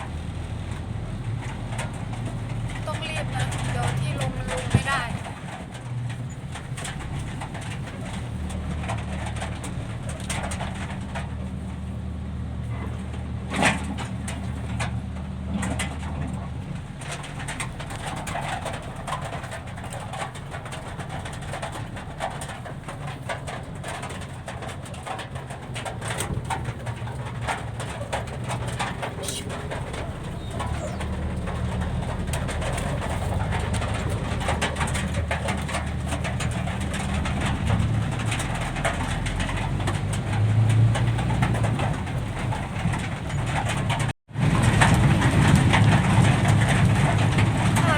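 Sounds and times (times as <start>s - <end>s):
truck engine droning: 0.0s - 47.9s.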